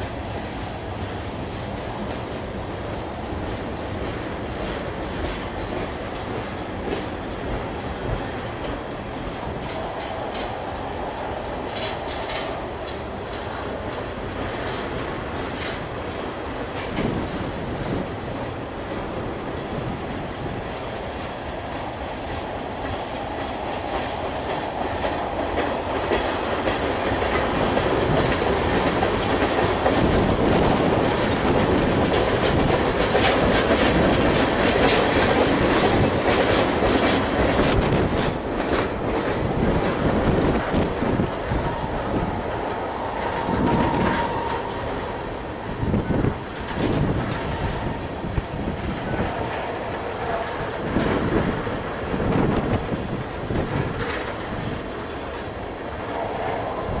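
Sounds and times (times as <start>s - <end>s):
freight train rolling past: 0.0s - 57.0s
wheels clicking over rail joints: 0.0s - 57.0s.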